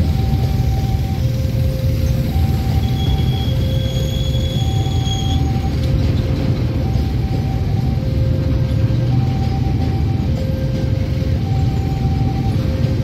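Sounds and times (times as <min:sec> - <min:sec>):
train wheels rumbling on rails: 0:00.0 - 0:13.0
two-tone level-crossing alarm: 0:00.0 - 0:13.0.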